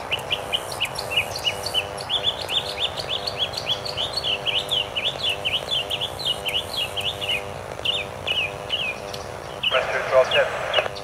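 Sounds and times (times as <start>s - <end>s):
birds chirping: 0.0s - 11.0s
faint steady drone: 0.0s - 11.0s.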